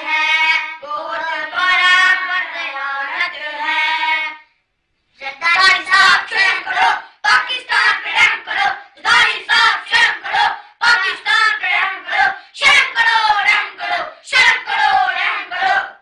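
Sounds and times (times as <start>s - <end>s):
children chanting: 0.0s - 4.6s, 5.2s - 16.0s.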